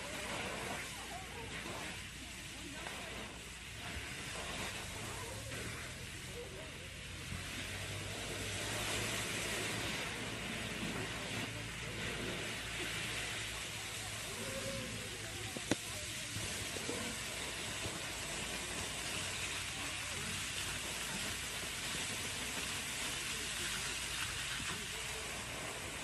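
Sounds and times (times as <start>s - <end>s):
water jet spraying: 0.0s - 26.0s.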